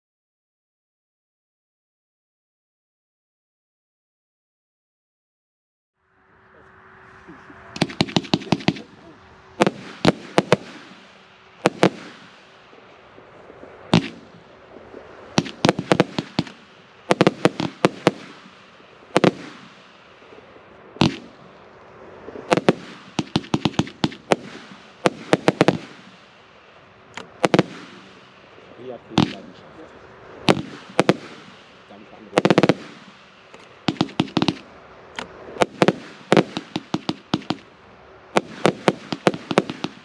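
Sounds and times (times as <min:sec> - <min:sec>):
firework hiss: 0:06.9 - 0:40.0
firework shells banging: 0:07.7 - 0:40.0.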